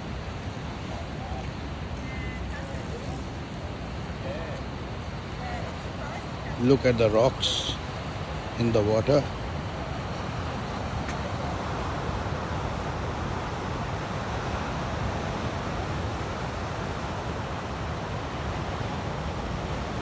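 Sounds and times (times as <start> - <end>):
ocean surf rushing: 0.0 - 20.0.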